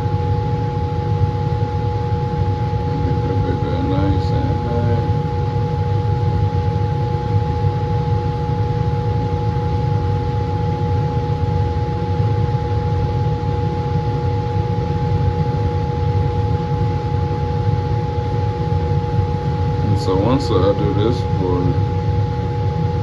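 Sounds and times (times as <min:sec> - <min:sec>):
blower roaring with hum tones: 0:00.0 - 0:23.0.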